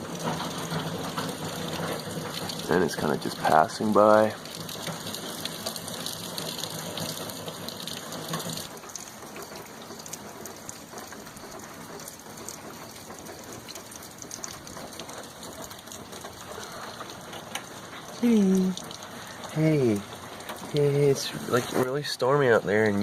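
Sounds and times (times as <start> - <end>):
rain hissing: 0.0 - 23.0
raindrop ticks: 0.0 - 23.0.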